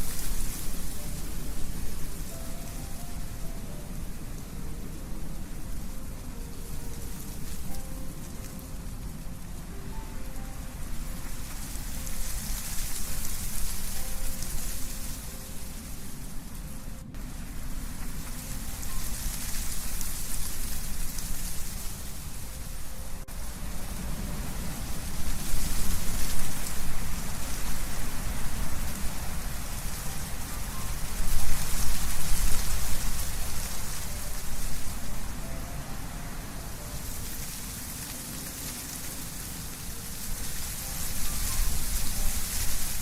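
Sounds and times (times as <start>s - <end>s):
leaves rustling: 0.0s - 43.0s
wind through trees: 0.0s - 43.0s.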